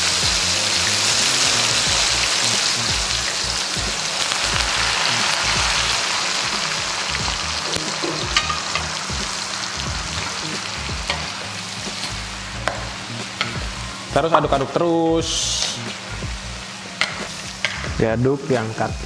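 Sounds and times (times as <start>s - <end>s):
peanuts deep-frying in oil: 0.0s - 19.0s.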